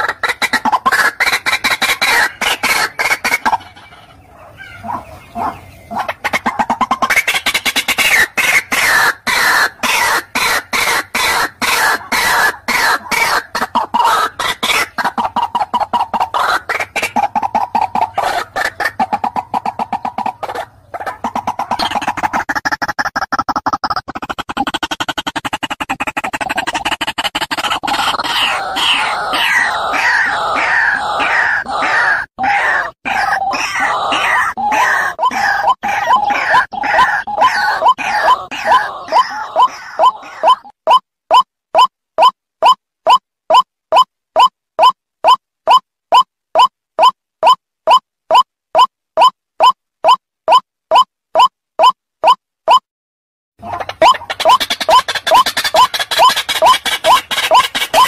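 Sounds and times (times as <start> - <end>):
waterhen calling: 0.0 - 23.3, 24.2 - 52.8, 53.6 - 58.0.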